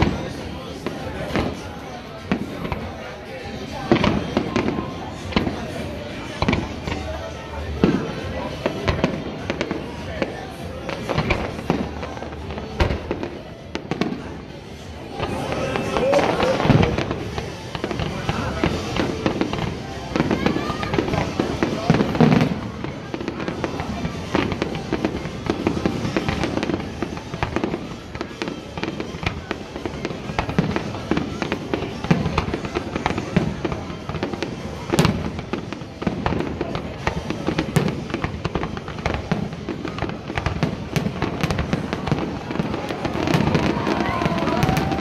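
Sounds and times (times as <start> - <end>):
fireworks bangs and crackling: 0.0 - 45.0
loud fireworks booms: 0.0 - 45.0.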